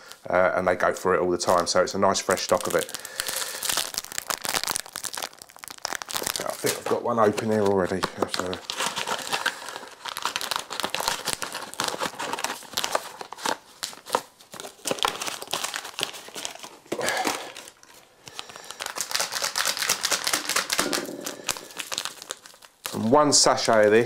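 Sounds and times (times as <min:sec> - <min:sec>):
sachet crinkling and rustling: 0:01.4 - 0:24.0.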